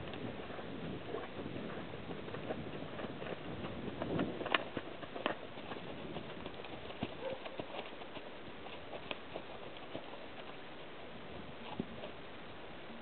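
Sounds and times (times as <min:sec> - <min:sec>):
horse hooves on sand: 0:00.0 - 0:13.0.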